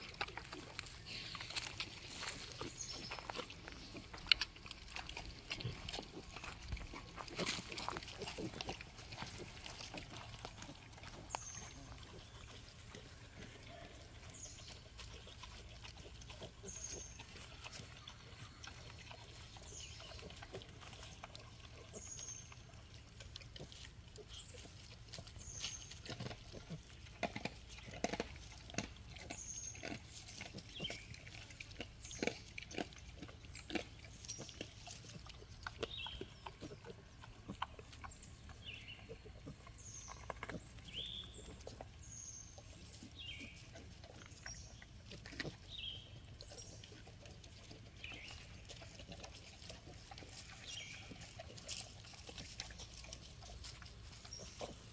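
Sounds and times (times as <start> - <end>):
piglets chewing and crunching: 0.0 - 54.9
piglets rooting in dirt: 0.0 - 54.9.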